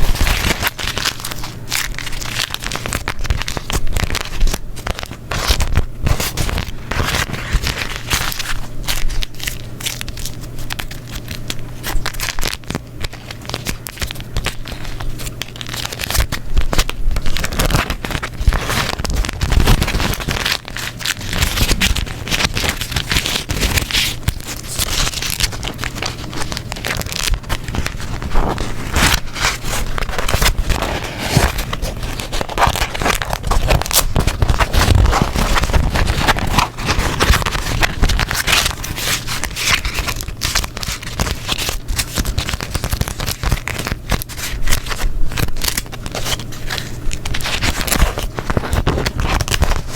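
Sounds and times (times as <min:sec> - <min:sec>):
sticky peeling of waxed sheets: 0:00.0 - 0:49.9
wax paper crinkling: 0:00.0 - 0:49.9.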